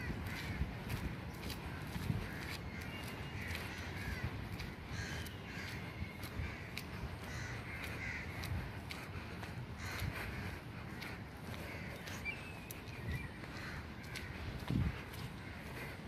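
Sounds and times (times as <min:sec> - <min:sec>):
crows cawing: 0:00.0 - 0:16.0.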